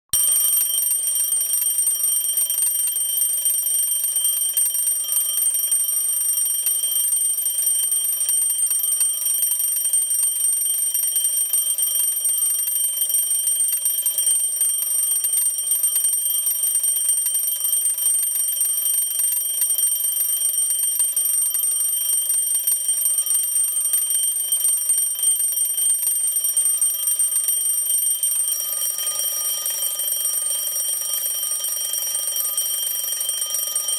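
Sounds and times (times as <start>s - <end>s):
bell alarm clock ringing: 0.2s - 33.9s.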